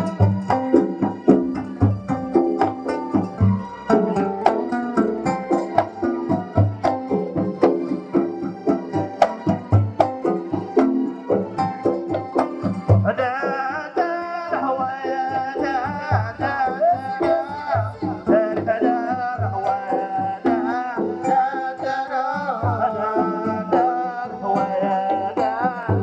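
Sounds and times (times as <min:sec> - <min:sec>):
drums beating: 0:00.0 - 0:13.7, 0:14.6 - 0:21.6, 0:24.9 - 0:26.0
ornamented melody line: 0:00.0 - 0:13.7, 0:14.9 - 0:26.0.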